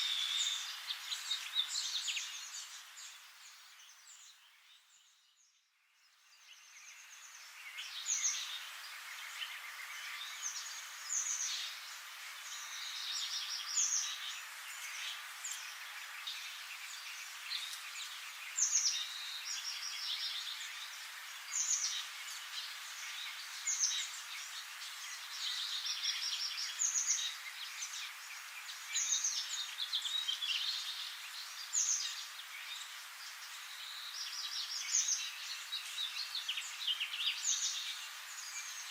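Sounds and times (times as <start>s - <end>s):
songbirds chirping and trilling: 0.0s - 38.9s
steady background hiss: 0.0s - 38.9s.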